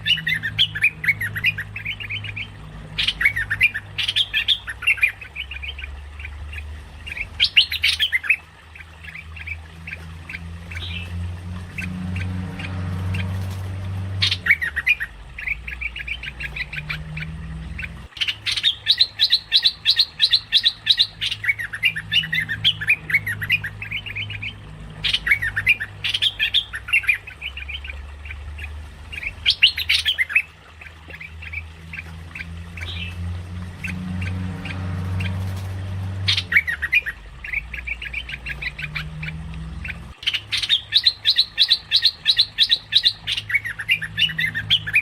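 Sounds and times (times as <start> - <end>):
bird harsh chattering calls: 0.0 - 13.6, 14.2 - 33.2, 33.8 - 45.0
steady low hum: 0.0 - 45.0.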